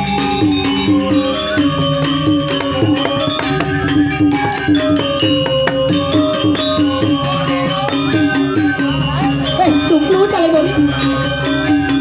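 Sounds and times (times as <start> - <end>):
gamelan music: 0.0 - 12.0.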